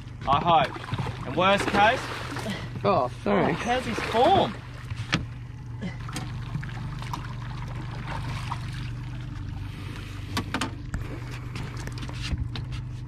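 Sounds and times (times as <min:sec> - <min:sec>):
boat motor humming: 0:00.0 - 0:13.0
water lapping against hull: 0:00.0 - 0:13.0.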